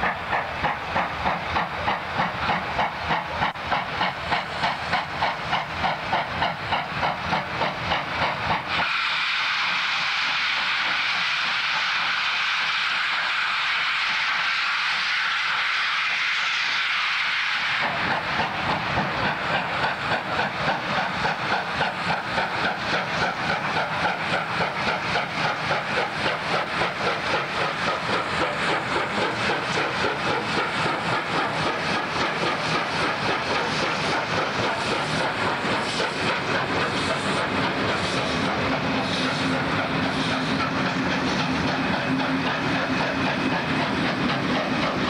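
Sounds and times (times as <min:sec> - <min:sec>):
steam hissing: 0:00.0 - 0:45.0
steam locomotive chuffing: 0:00.0 - 0:45.0.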